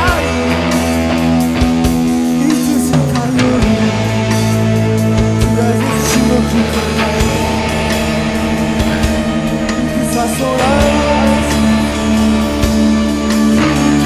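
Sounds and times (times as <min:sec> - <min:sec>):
bass guitar: 0:00.0 - 0:14.0
drum kit playing: 0:00.0 - 0:14.0
electric guitar: 0:00.0 - 0:14.0.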